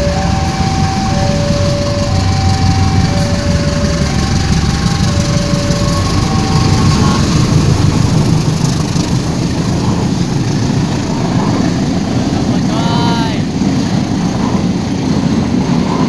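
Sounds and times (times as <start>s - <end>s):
two-pitch alternating tones: 0.0s - 14.8s
diesel locomotive engine rumble: 0.0s - 16.0s.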